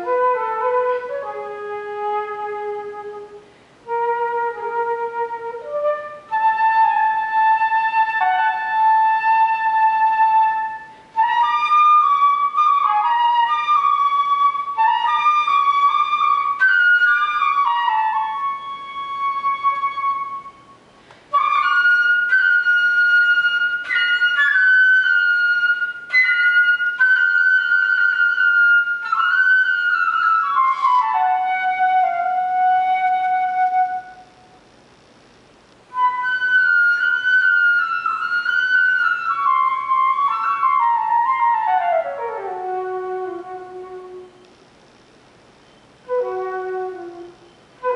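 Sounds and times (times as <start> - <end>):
solo flute playing: 0.0 - 34.6, 35.9 - 44.5, 45.9 - 47.9.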